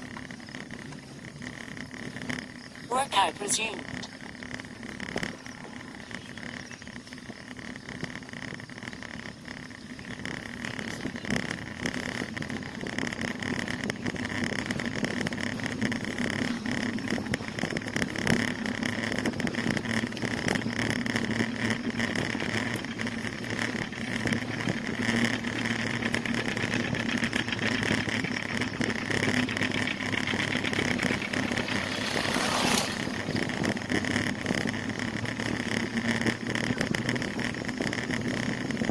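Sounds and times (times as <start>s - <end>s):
bicycle riding rush and hum: 0.0s - 38.9s.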